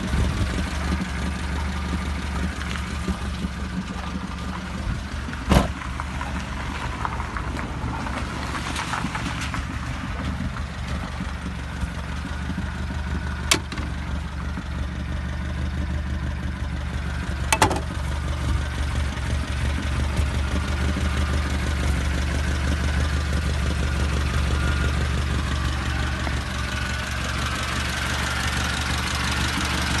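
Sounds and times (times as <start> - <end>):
car engine idling with tapping: 0.0 - 30.0.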